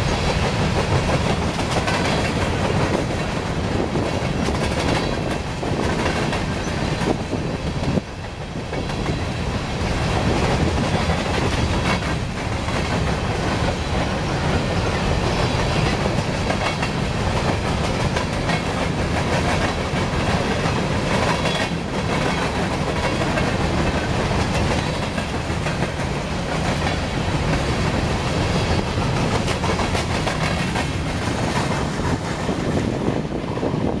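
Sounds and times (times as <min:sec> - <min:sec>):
wheels clicking over rail joints: 0:00.0 - 0:33.7
train wheels rumbling on rails: 0:00.0 - 0:34.0.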